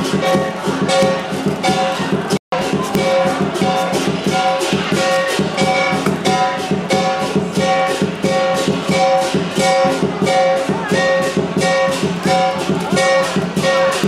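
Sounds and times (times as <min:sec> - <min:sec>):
cymbal clashes: 0:00.0 - 0:14.0
drum beat: 0:00.0 - 0:14.0
gong: 0:00.0 - 0:14.0.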